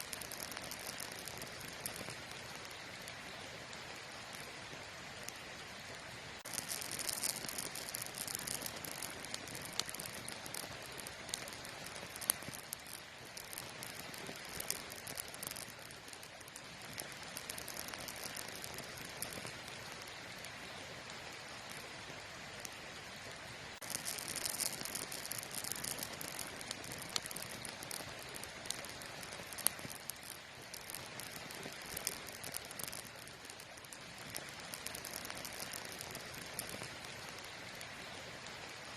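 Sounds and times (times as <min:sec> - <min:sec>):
campfire crackling: 0:00.0 - 0:38.9
campfire hissing: 0:00.0 - 0:38.9.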